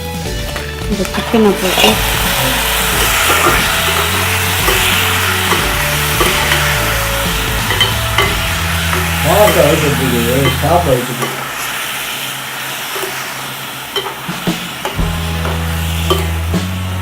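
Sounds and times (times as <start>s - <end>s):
chicken sizzling in hot oil: 0.0s - 17.0s
spoon scraping a pan: 0.5s - 16.7s.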